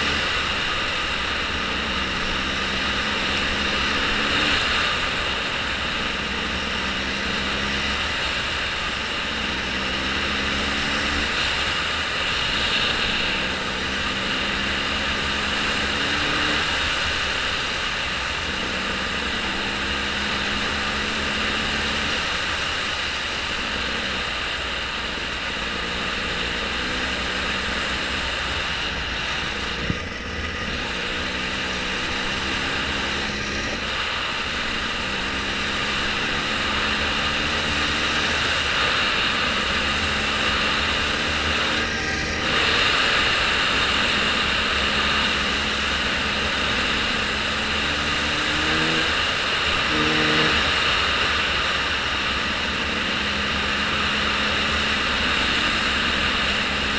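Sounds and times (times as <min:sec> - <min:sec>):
low engine hum: 0:00.0 - 0:56.9
rushing noise of moving vehicle: 0:00.0 - 0:56.9.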